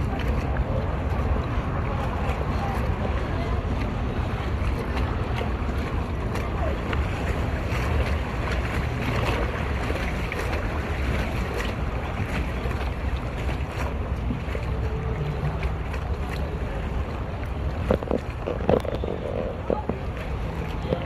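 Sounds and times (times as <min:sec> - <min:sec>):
water slapping against dock: 0:00.0 - 0:21.0
wind rumbling on microphone: 0:00.0 - 0:21.0.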